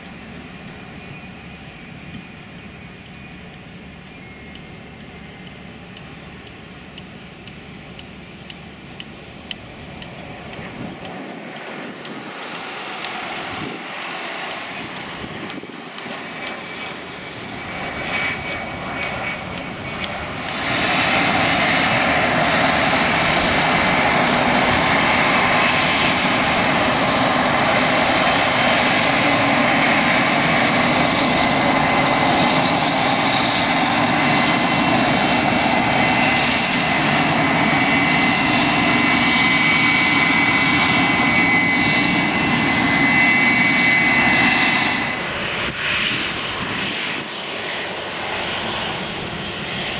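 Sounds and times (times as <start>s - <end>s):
jet engines whining and hissing: 0.0s - 49.9s.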